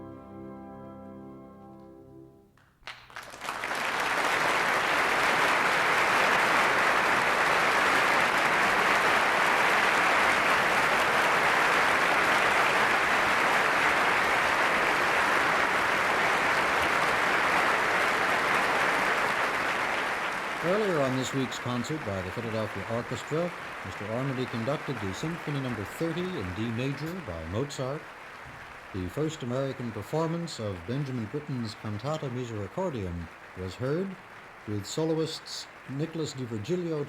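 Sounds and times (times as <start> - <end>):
audience applauding: 2.6 - 37.0.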